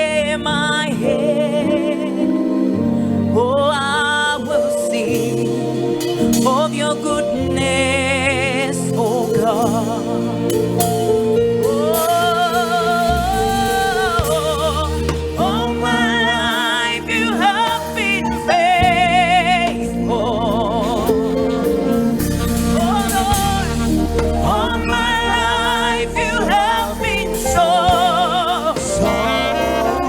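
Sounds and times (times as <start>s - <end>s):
band accompaniment: 0.0s - 30.0s
person singing with vibrato: 0.0s - 30.0s.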